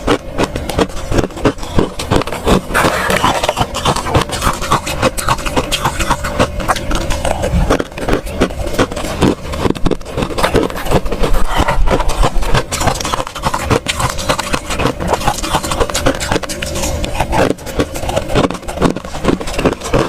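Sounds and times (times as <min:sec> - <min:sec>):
chewing crunchy frost: 0:00.0 - 0:20.0.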